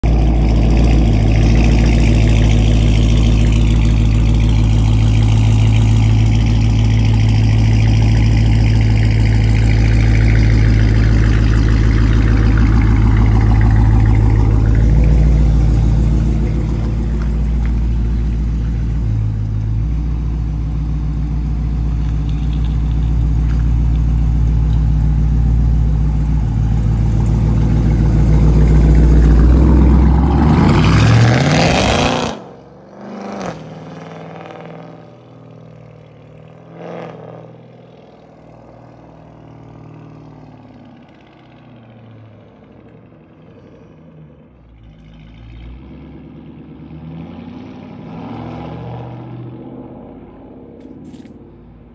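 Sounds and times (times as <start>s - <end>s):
loud car engine running: 0.0s - 51.9s.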